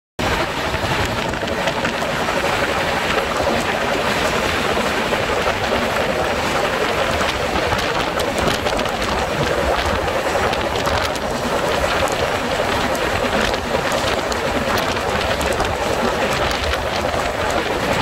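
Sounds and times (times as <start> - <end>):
heavy rain: 0.2 - 18.0
train running noise: 0.2 - 18.0
wind on microphone: 0.2 - 18.0.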